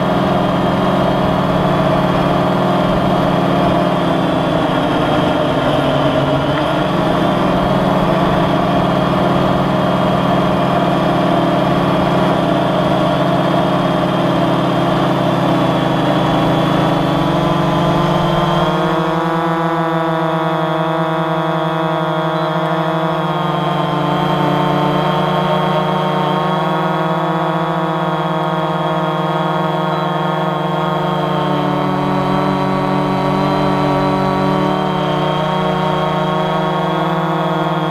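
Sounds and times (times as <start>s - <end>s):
drone propellers droning: 0.0s - 37.9s.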